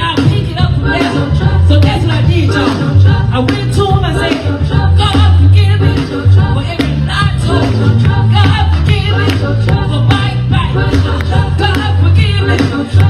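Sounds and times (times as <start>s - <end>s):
gospel music with bass and drums: 0.0s - 13.0s.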